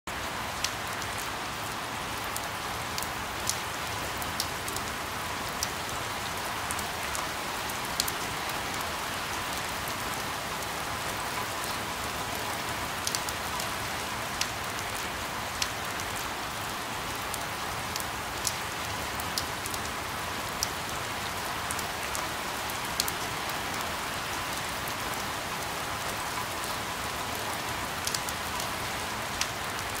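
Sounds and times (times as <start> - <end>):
steady rain hiss: 0.1 - 30.0
close raindrops ticking: 0.2 - 30.0.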